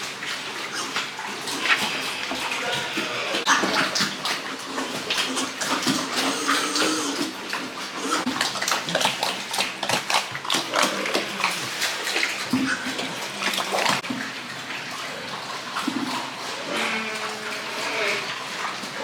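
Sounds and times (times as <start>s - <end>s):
pigs grunting and squealing: 0.5s - 14.1s, 14.9s - 19.0s.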